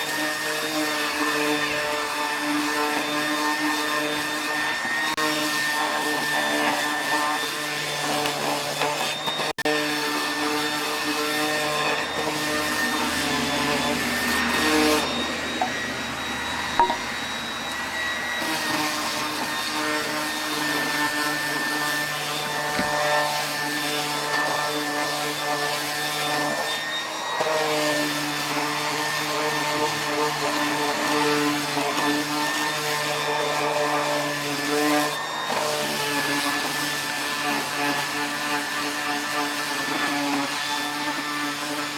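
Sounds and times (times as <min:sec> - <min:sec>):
power sander running: 0:00.0 - 0:41.9.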